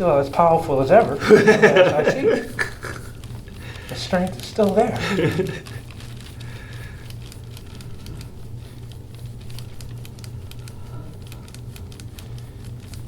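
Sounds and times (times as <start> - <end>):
light crackling of skin and fabric: 0.0 - 13.0
soft rubbing of skin: 0.0 - 13.0
steady low hum: 0.0 - 13.0.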